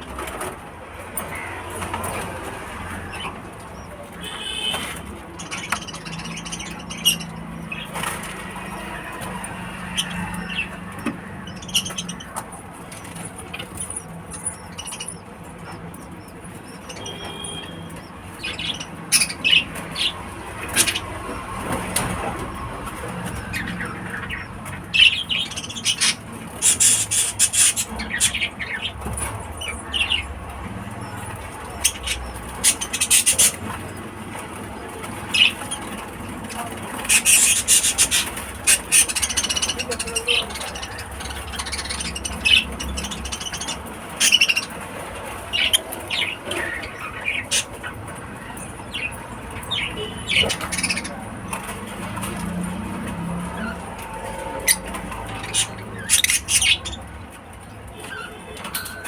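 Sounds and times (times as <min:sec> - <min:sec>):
lovebirds chirping and squeaking: 0:00.0 - 0:59.0.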